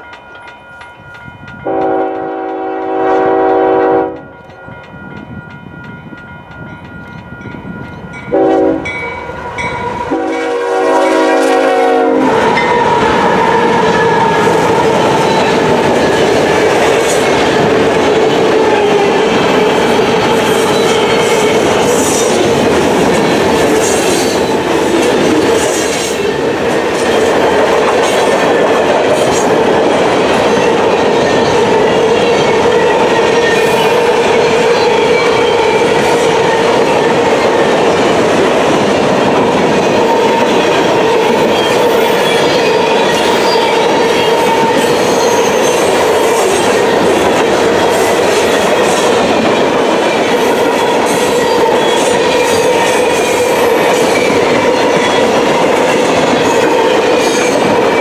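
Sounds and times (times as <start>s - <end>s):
clicks of train wheels: 0.0s - 3.3s, 4.0s - 10.5s, 12.4s - 58.0s
freight train rumbling past: 0.0s - 58.0s.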